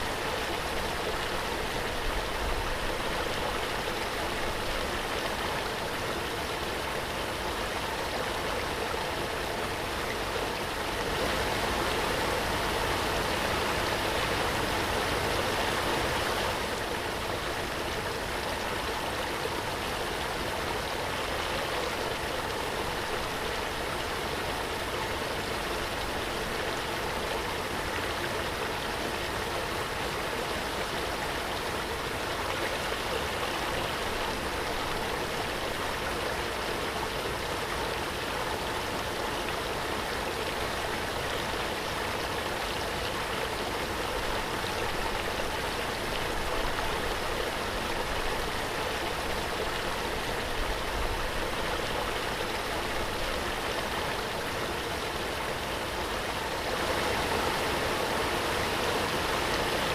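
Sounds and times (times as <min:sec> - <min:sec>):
waterfall rushing: 0:08.7 - 0:59.9.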